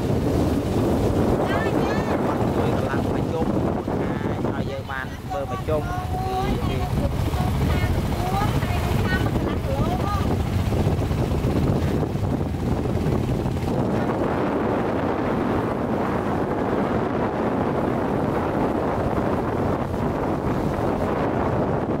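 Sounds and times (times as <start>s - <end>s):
motorboat engine running: 0.0s - 22.0s
wind buffeting microphone: 0.0s - 22.0s.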